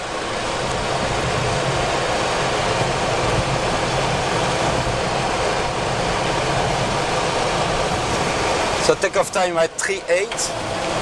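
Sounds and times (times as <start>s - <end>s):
jet engines idling in cockpit: 0.0s - 11.0s.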